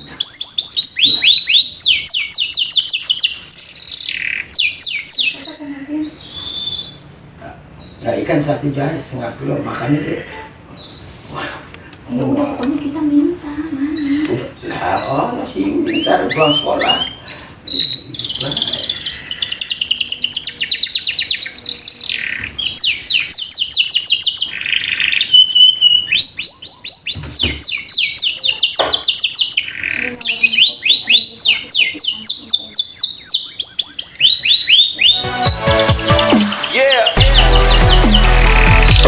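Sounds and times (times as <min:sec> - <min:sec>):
canary singing trills: 0:00.0 - 0:08.9, 0:09.6 - 0:11.4, 0:12.1 - 0:39.0.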